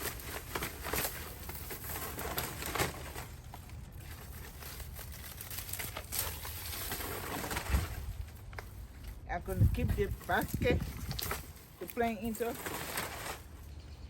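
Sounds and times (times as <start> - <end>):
rustling of dry plant debris: 0.0 - 14.0.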